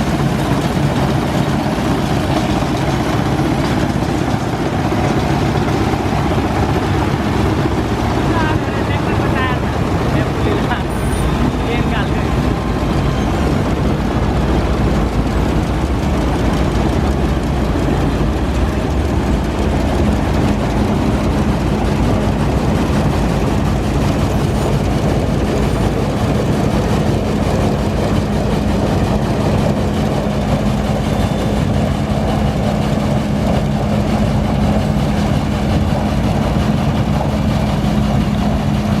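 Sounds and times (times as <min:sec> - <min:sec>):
combine harvester engine drone: 0:00.0 - 0:39.0
steady low hum: 0:00.0 - 0:39.0.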